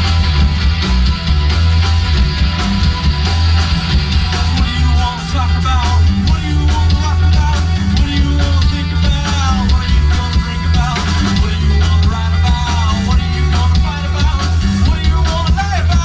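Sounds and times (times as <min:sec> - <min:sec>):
pitch-bending melody line: 0:00.0 - 0:15.4
heavy bass line: 0:00.0 - 0:16.0.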